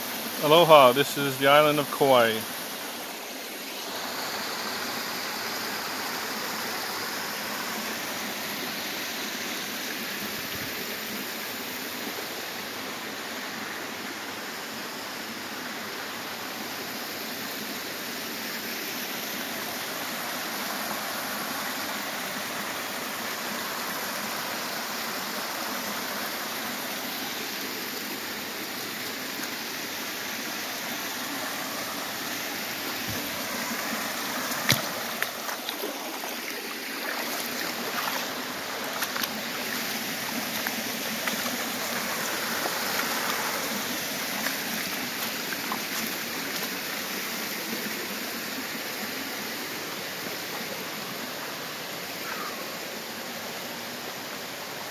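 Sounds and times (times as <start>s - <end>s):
stream water over rocks: 0.0s - 54.9s.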